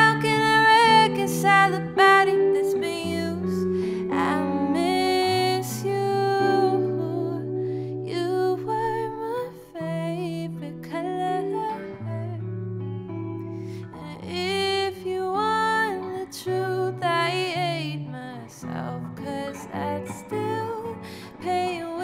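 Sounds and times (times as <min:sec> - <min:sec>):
woman singing with vibrato: 0:00.0 - 0:12.4, 0:13.8 - 0:22.0
electric guitar accompaniment: 0:00.0 - 0:22.0.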